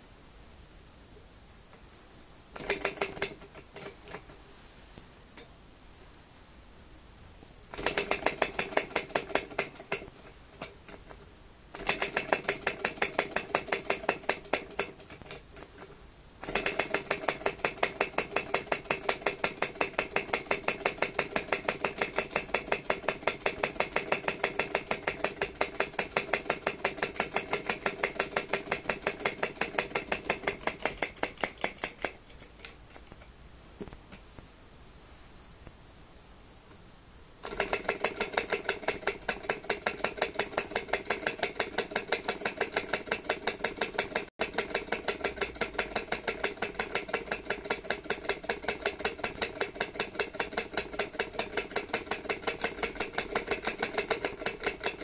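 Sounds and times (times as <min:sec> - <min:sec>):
model engine clicking rapidly: 0:02.6 - 0:04.3, 0:07.7 - 0:32.8, 0:37.4 - 0:55.0.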